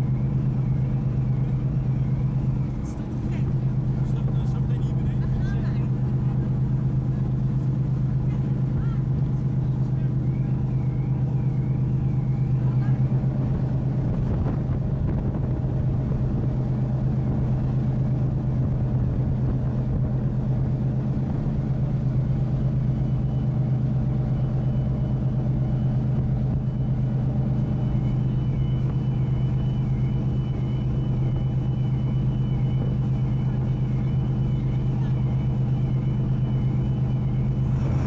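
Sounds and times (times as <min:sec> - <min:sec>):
ship engines droning: 0:00.0 - 0:38.0.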